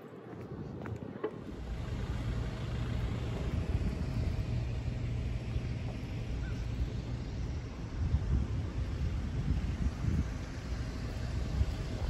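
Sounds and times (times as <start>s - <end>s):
low rumble of road traffic: 0.0s - 12.0s
wind on the microphone: 0.0s - 12.0s.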